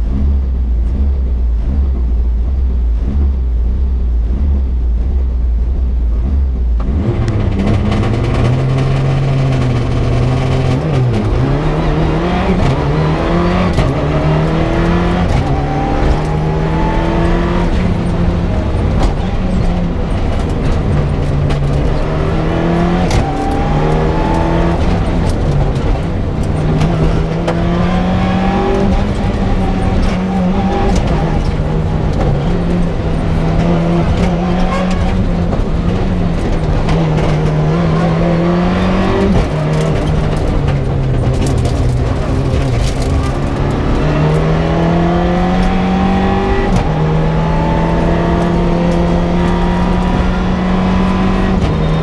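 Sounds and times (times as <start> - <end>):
rally car engine revving: 0.0 - 52.0.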